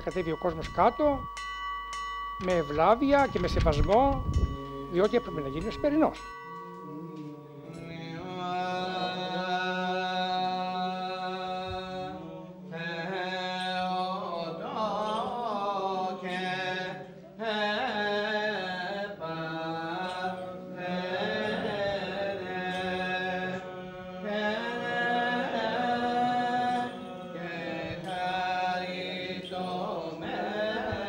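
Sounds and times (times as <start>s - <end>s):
voice chanting ornamented melody: 2.4s - 31.0s.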